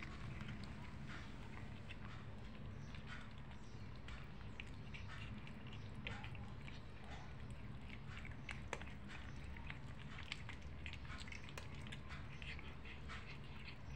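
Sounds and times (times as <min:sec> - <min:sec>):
kittens chewing and lapping: 0:00.0 - 0:13.9
steady low hum: 0:00.0 - 0:13.9.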